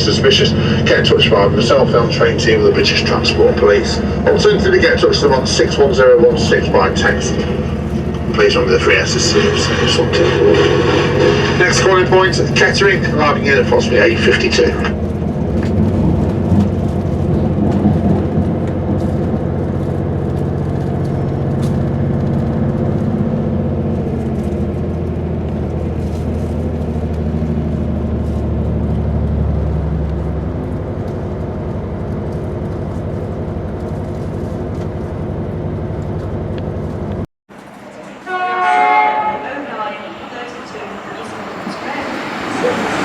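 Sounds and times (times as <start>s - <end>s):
train engine hum: 0.0s - 43.0s
train running noise: 0.0s - 43.0s.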